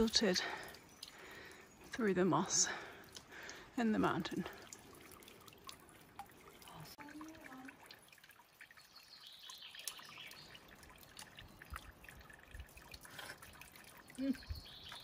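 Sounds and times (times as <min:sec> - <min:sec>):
water trickling and dripping: 0:00.0 - 0:15.0.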